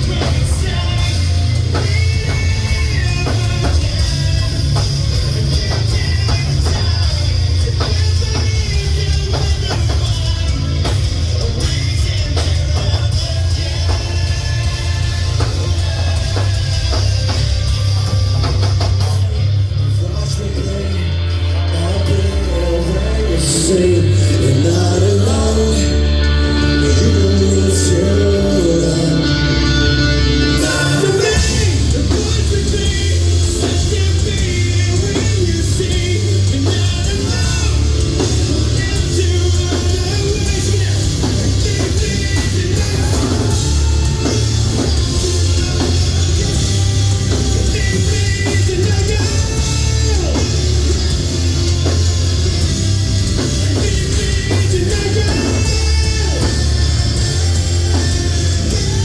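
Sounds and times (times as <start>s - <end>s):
bass: 0.0s - 59.0s
distorted guitars: 0.0s - 59.0s
drums: 0.0s - 59.0s
heavy rock band playing: 0.0s - 59.0s
lead singer singing: 0.0s - 59.0s.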